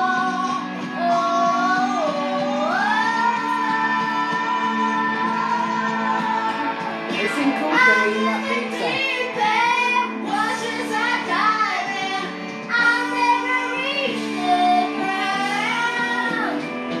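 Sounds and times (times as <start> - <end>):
young boy singing: 0.0 - 17.0.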